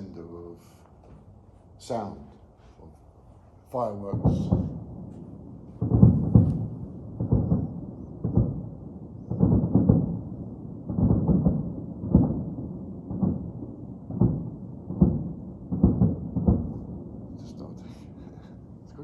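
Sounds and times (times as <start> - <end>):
distant fireworks booming: 0.0 - 19.0.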